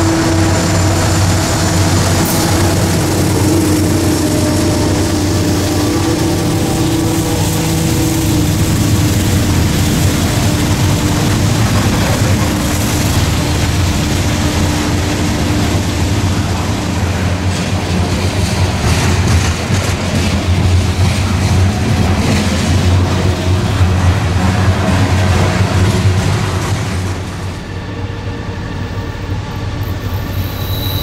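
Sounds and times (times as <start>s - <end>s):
wheel clatter over rail joints: 0.0s - 27.6s
freight train rumbling past: 0.0s - 31.0s.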